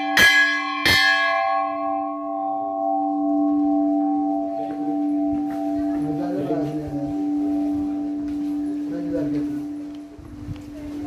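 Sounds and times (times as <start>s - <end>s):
large metal bell ringing: 0.0s - 10.0s.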